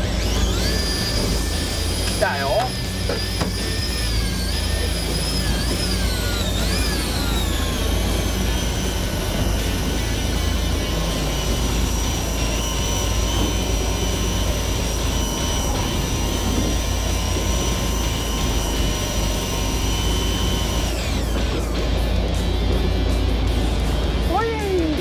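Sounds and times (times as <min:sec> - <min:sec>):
low engine rumble: 0:00.0 - 0:25.0
small motor whining: 0:00.0 - 0:25.0.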